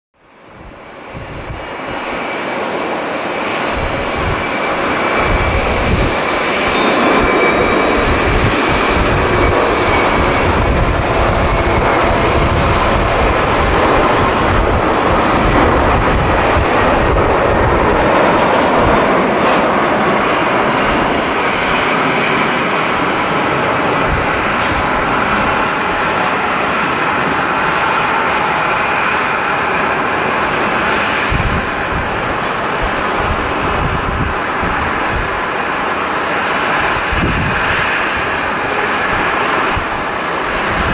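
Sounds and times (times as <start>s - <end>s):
jet engines at takeoff: 0.2s - 40.9s.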